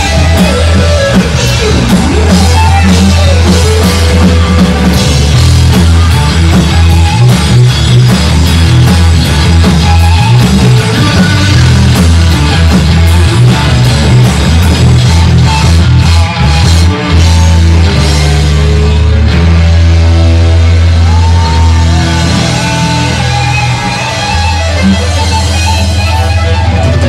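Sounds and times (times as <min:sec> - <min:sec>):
bass guitar: 0:00.0 - 0:27.0
drum kit: 0:00.0 - 0:27.0
electric guitars: 0:00.0 - 0:27.0.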